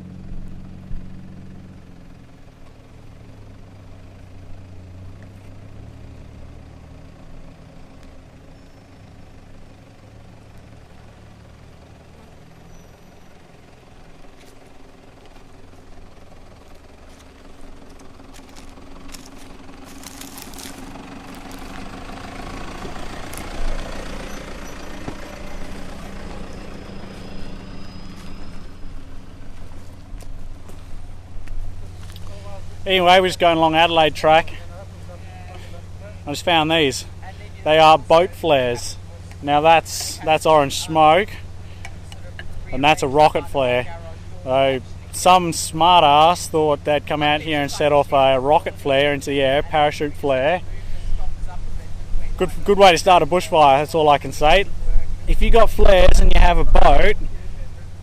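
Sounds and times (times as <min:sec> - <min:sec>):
vehicle engine running low: 0:00.0 - 0:58.0.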